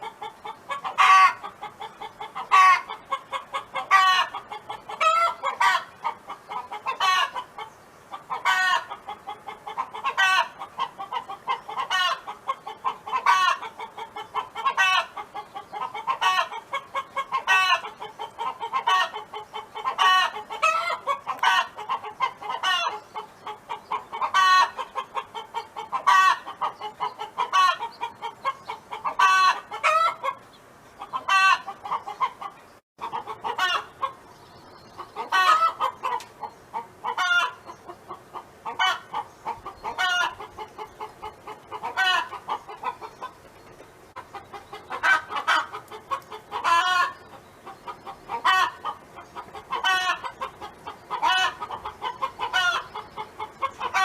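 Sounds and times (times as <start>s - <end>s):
hen clucking and calling: 0.0s - 54.0s.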